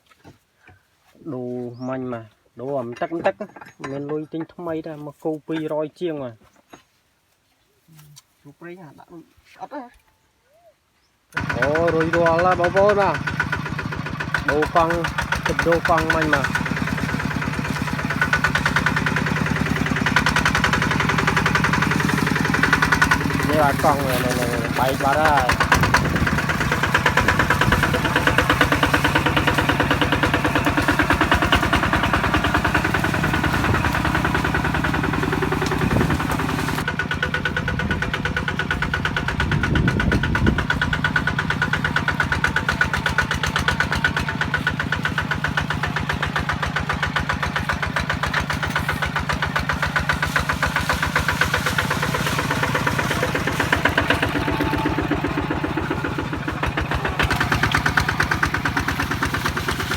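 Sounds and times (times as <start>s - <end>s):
diesel engine running: 11.4s - 59.9s.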